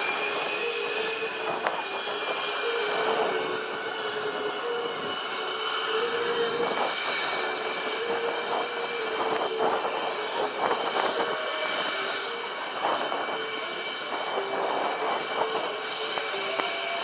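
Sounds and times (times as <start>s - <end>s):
jet engine running: 0.0s - 17.0s.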